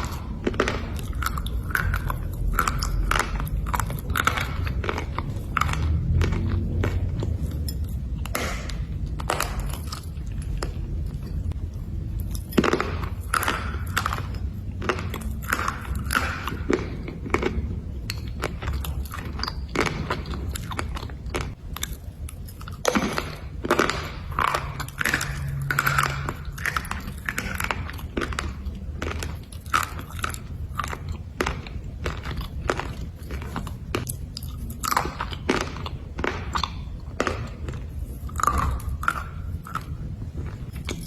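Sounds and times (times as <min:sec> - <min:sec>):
slate being chewed: 0:00.0 - 0:41.0.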